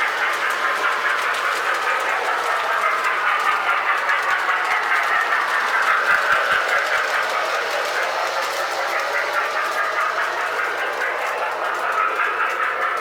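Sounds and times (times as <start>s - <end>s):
toy trains rolling on track: 0.0s - 13.0s.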